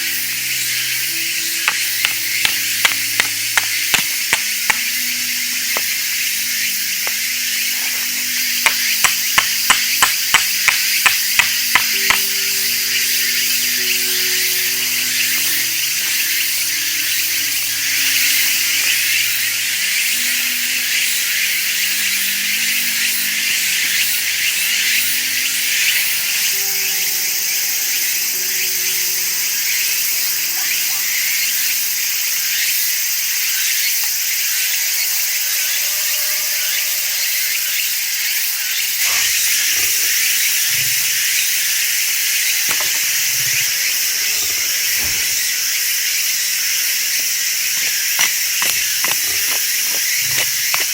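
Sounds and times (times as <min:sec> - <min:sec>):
insects singing: 0:00.0 - 0:50.9.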